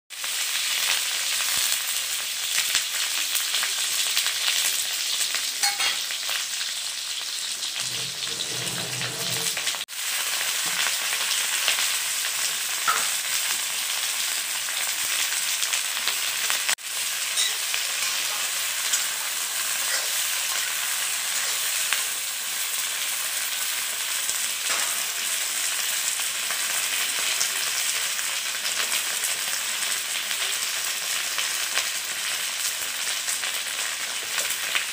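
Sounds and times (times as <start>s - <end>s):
vegetables sizzling in hot oil: 0.1s - 34.9s.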